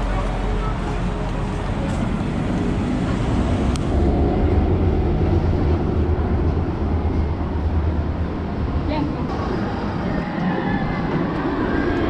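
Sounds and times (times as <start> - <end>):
roller coaster rumbling on track: 0.0 - 12.0
wind on microphone: 0.2 - 12.0.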